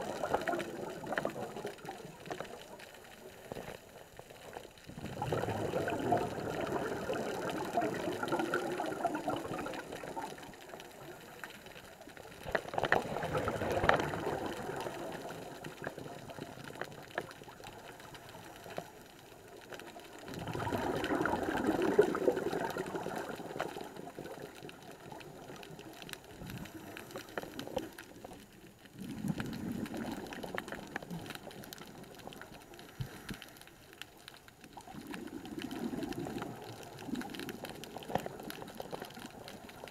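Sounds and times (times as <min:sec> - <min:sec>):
underwater exhaust bubbles: 0:00.0 - 0:39.9.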